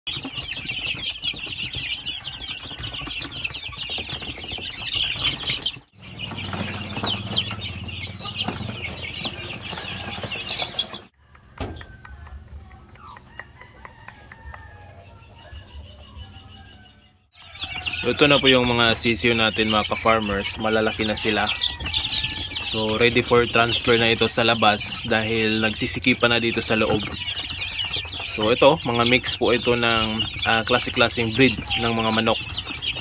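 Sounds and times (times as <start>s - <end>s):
chicks peeping: 0.1s - 33.0s.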